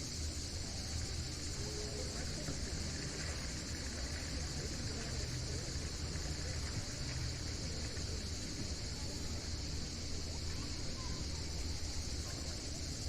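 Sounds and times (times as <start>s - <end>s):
continuous high buzz: 0.0s - 13.0s.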